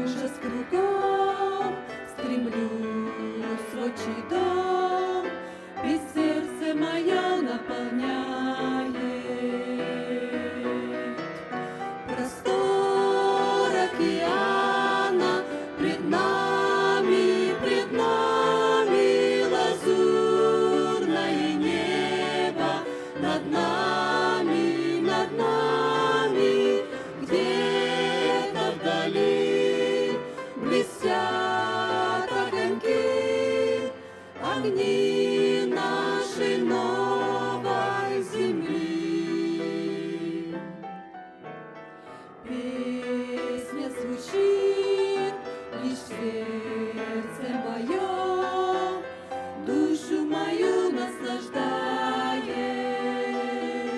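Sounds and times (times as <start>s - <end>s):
mixed choir singing a hymn: 0.0s - 41.2s, 42.3s - 53.9s.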